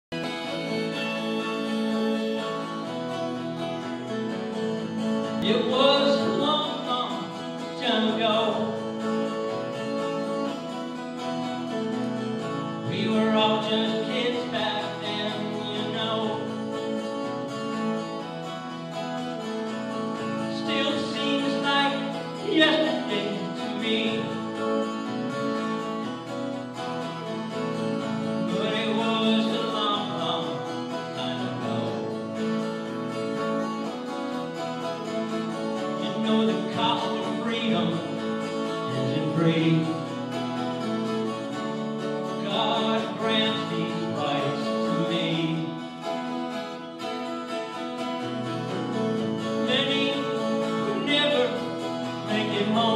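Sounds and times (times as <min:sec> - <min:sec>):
acoustic guitar: 0:00.0 - 0:52.9
person singing: 0:00.1 - 0:10.5, 0:11.2 - 0:17.9, 0:20.2 - 0:26.1, 0:27.0 - 0:33.0, 0:34.8 - 0:52.9
concert band holding chords: 0:00.1 - 0:52.9.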